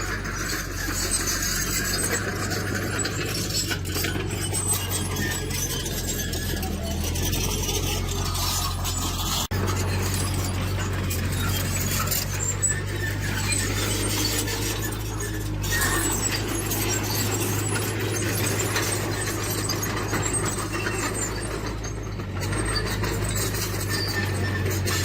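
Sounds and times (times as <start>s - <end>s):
heavy diesel engine running: 0.0s - 25.0s
metallic squeaks and clinks: 0.0s - 25.0s.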